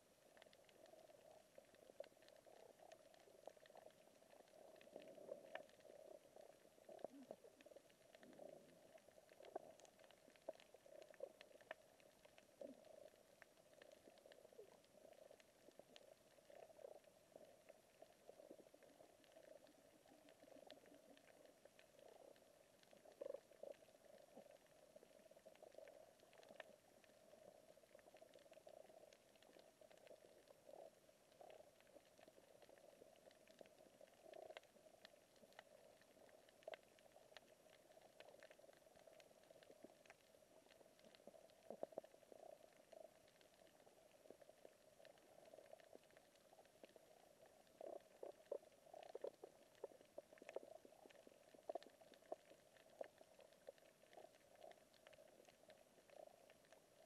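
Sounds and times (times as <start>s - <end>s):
faint crackling clicks: 0.0s - 57.0s.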